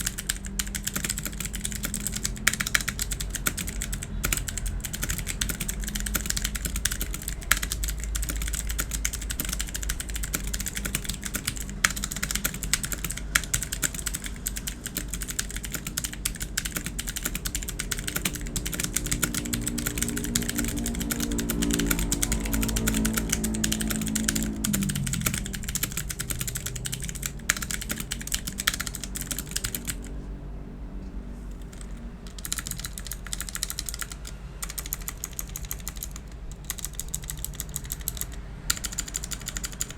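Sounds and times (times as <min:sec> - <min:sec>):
typing on clicky mechanical keyboard: 0:00.0 - 0:30.2, 0:31.5 - 0:39.9
low hum: 0:00.0 - 0:39.9.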